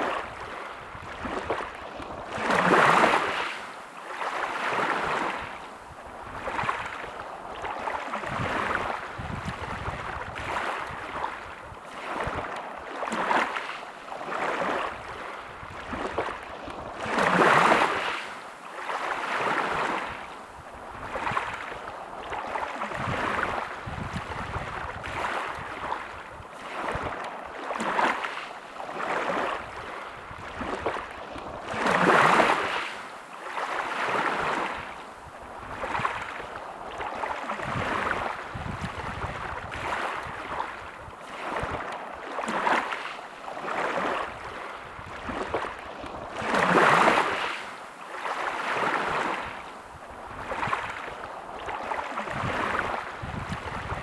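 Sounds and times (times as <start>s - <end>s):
sea waves breaking on beach: 0.0s - 54.0s.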